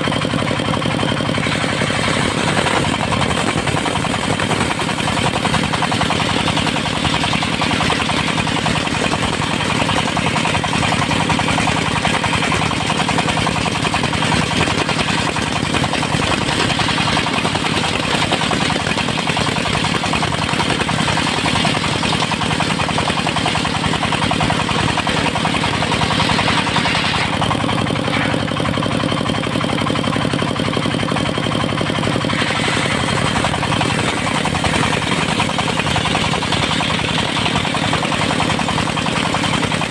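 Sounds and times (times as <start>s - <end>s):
circular sawmill sawing log: 0.0s - 39.9s.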